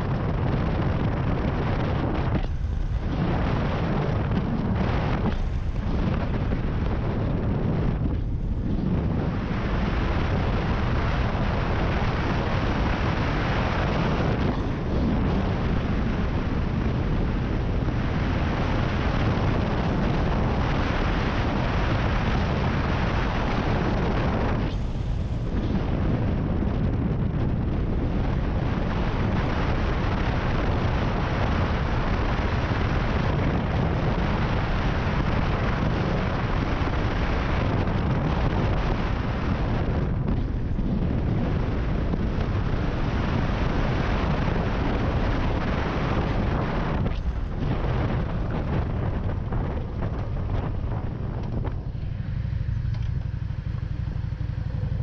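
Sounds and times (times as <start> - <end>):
motorcycle engine: 0.0 - 55.0
wind buffeting microphone: 0.0 - 55.0.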